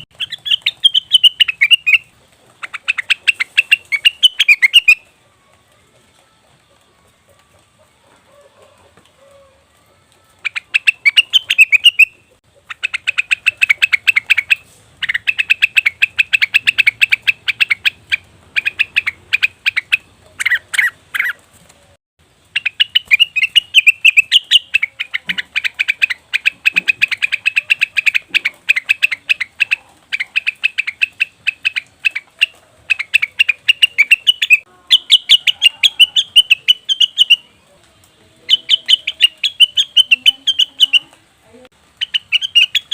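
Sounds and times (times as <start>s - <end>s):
bird chattering calls: 0.0s - 5.0s, 10.5s - 21.4s, 22.5s - 37.5s, 38.5s - 41.2s, 42.0s - 42.9s.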